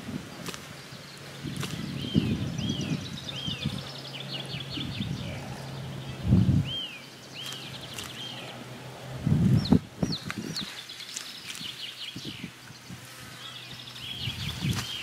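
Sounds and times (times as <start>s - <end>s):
young bird peeping: 0.3s - 8.7s, 9.4s - 15.0s.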